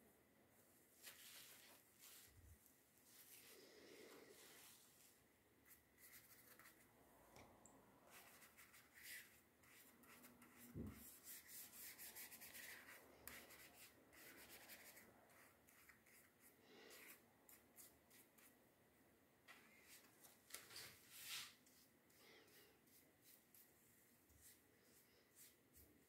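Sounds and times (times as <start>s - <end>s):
paintbrush swishing on paper: 0.9s - 6.9s, 8.1s - 18.6s, 19.6s - 26.0s.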